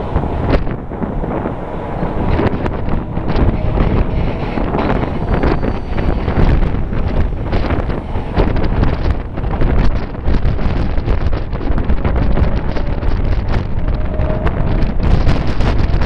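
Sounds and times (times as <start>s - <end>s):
train carriage rumbling on rails: 0.0s - 16.0s
wind buffeting microphone: 0.0s - 16.0s.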